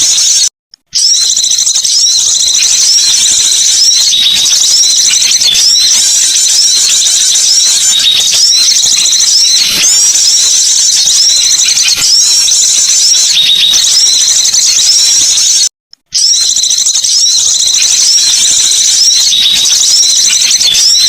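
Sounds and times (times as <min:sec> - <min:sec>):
small songbirds twittering: 0:01.0 - 0:15.5, 0:16.2 - 0:21.0.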